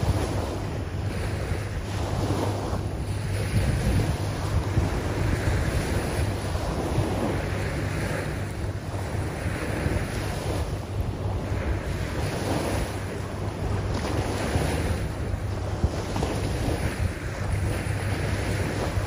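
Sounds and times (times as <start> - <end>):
small waves washing up a beach: 0.0 - 19.0
wind rumble on microphone: 0.0 - 19.0.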